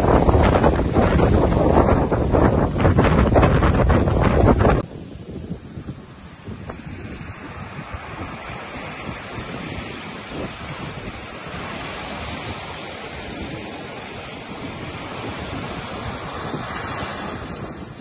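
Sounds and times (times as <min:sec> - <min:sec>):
waves washing up a beach: 0:00.0 - 0:18.0
wind buffeting microphone: 0:00.0 - 0:18.0.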